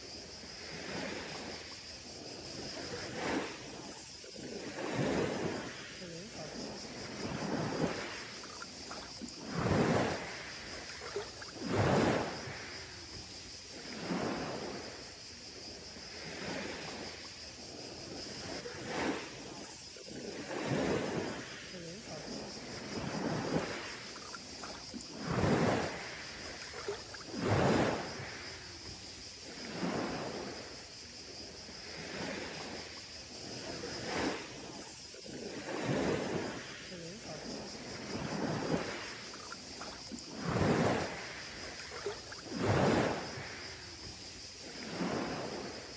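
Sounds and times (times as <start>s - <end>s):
small waves washing onto beach: 0.0s - 45.9s.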